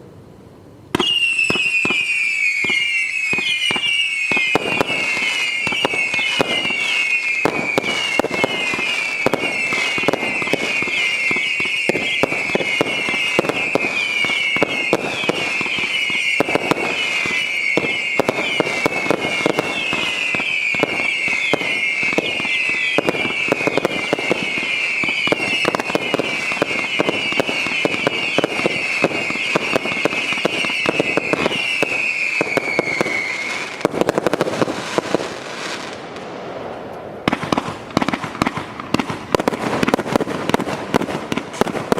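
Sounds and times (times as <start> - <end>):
firework bangs and crackles: 0.8 - 41.9
firework whistles: 0.9 - 41.9.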